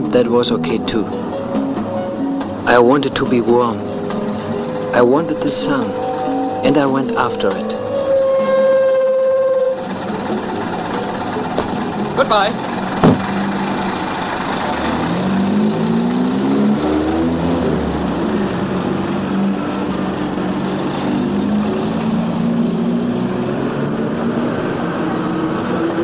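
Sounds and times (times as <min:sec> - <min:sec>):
traffic noise: 0:00.0 - 0:26.0
truck engine revving and shifting gears: 0:00.0 - 0:26.0.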